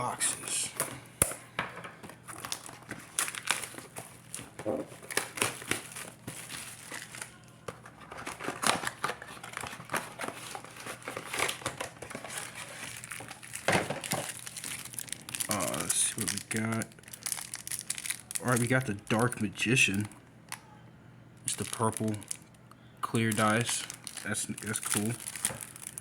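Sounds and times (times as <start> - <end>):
plastic packaging crinkling and tearing: 2.2 - 20.2, 21.5 - 26.0.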